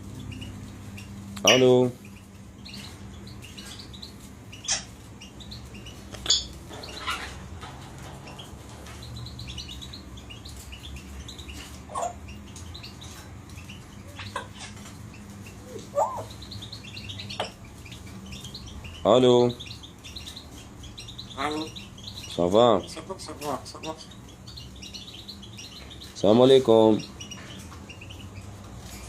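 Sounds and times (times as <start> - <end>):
parrots chirping softly: 0.0 - 29.0.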